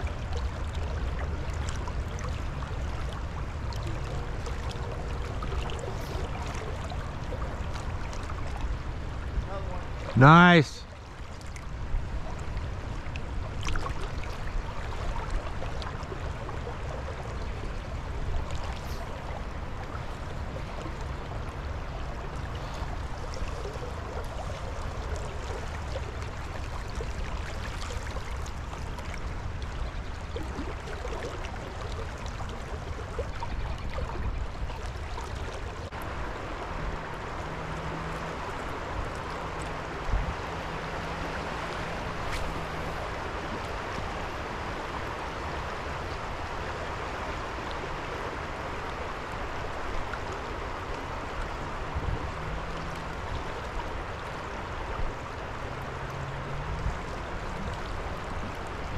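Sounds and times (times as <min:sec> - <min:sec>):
creek water running: 0:00.0 - 0:58.9.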